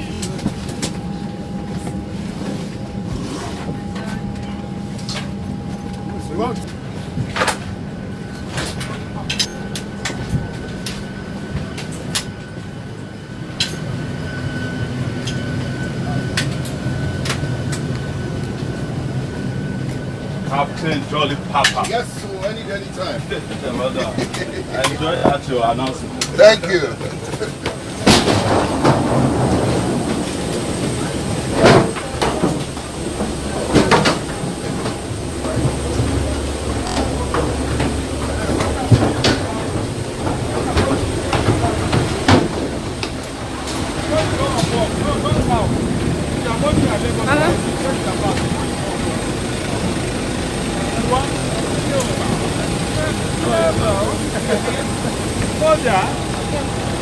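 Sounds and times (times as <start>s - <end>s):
aircraft engine hum: 0.0s - 57.0s
airplane cabin rumble: 0.0s - 57.0s
thin steady whine: 0.0s - 57.0s.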